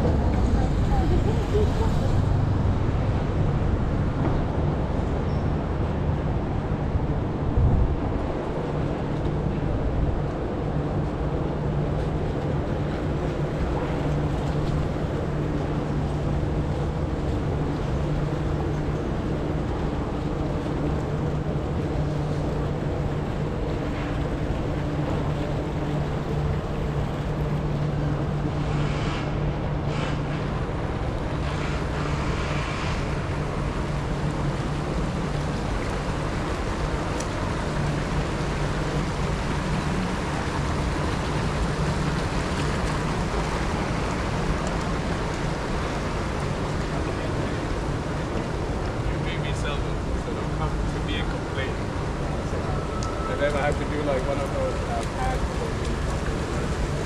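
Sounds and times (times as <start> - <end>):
constant rushing noise: 0.0 - 57.0
low mechanical hum: 0.0 - 57.0.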